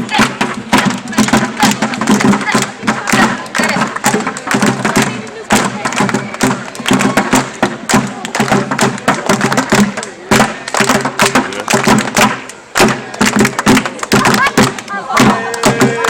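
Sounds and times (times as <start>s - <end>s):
crowd voices: 0.0s - 16.0s
fast drumming: 0.0s - 16.0s.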